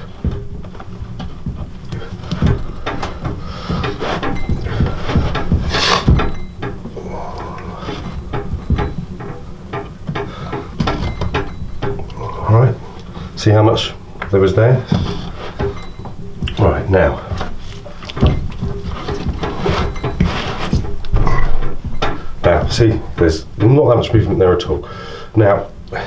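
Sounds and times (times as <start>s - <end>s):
drum lacing scraping: 0.0s - 26.0s.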